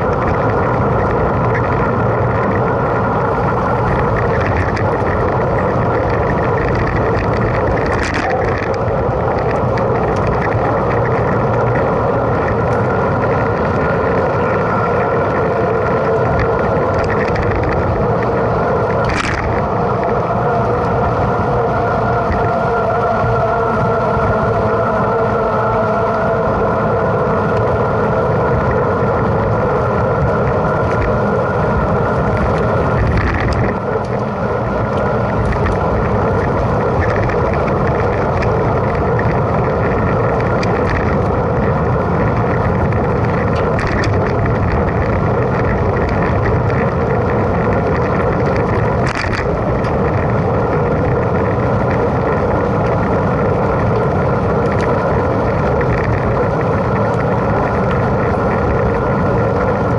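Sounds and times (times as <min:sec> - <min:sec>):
bike rolling noise: 0:00.0 - 0:59.9
wind noise: 0:00.0 - 0:59.9.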